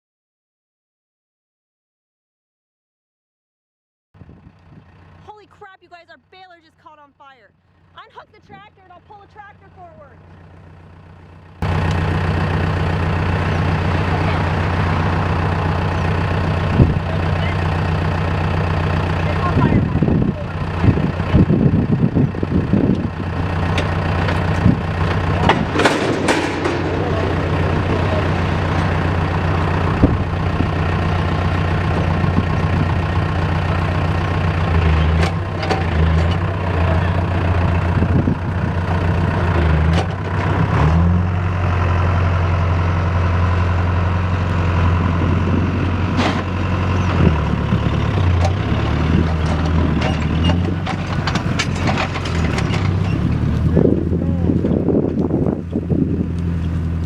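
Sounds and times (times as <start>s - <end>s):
tractor engine running: 4.2s - 57.0s.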